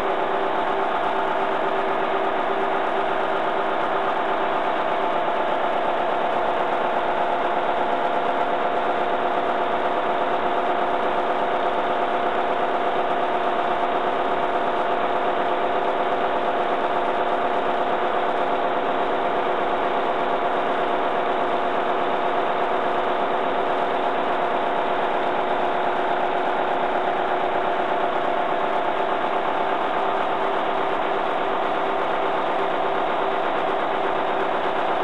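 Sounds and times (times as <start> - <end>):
diesel generator engine running: 0.0 - 35.0.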